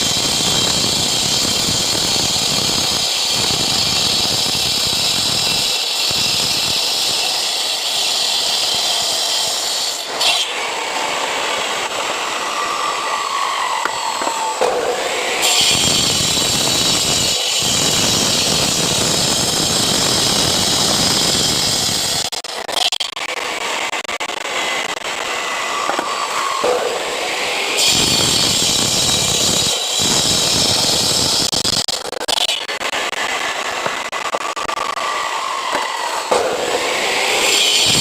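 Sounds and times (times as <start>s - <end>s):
power cutter grinding concrete: 0.0s - 38.0s.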